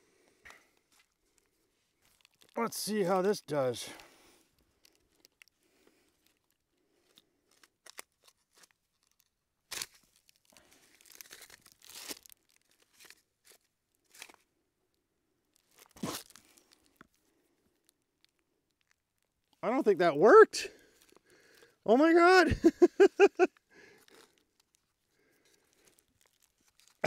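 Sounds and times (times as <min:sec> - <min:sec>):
faint crackling and rustling: 0:00.0 - 0:19.6, 0:23.0 - 0:27.0.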